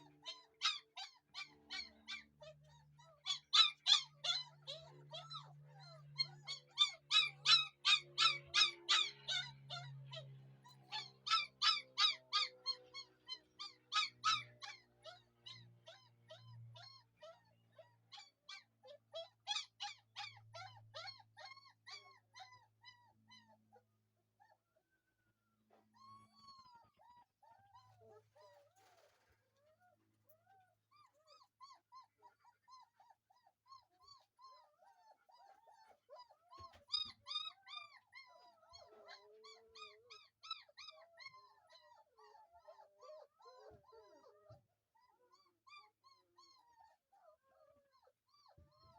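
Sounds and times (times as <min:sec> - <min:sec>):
puppies crying and whimpering: 0:00.0 - 0:48.9.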